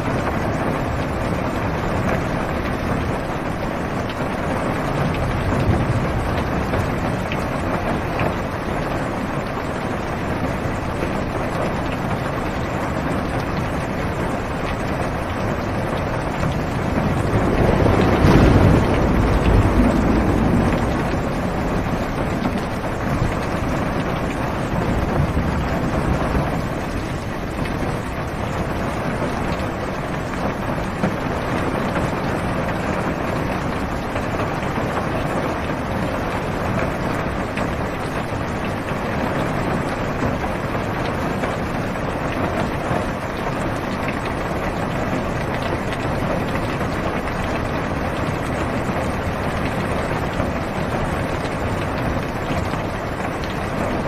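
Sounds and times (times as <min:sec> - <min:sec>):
heavy rain on car roof: 0:00.0 - 0:54.0
thunder rumbles: 0:00.0 - 0:54.0.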